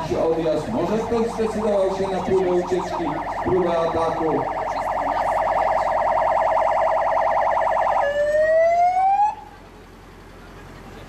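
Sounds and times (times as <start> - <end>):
police siren warbling and wailing: 0.0 - 9.5.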